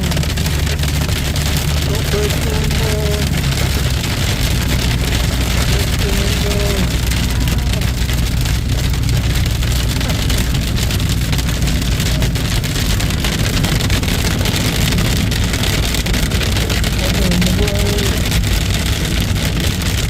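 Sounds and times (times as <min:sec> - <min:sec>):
hail clattering on car: 0:00.0 - 0:20.0
road and engine rumble: 0:00.0 - 0:20.0.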